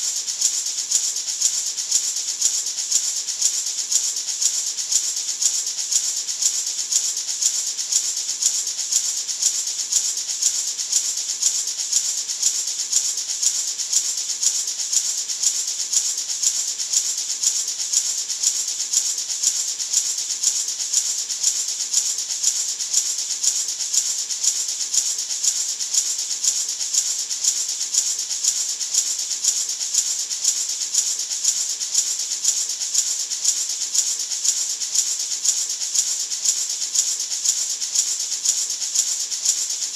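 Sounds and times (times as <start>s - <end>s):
gourd maraca rattling: 0.0s - 39.9s.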